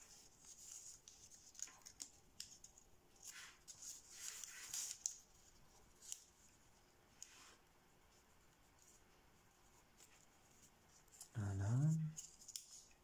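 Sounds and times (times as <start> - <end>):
paper rustling and crinkling: 0.0 - 11.4, 12.1 - 13.0.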